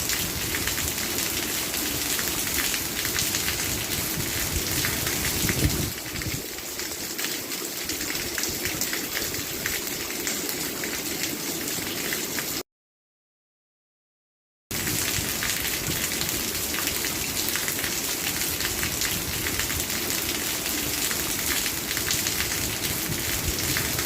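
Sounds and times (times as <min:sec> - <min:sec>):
rain pattering: 0:00.0 - 0:12.6, 0:14.7 - 0:24.0.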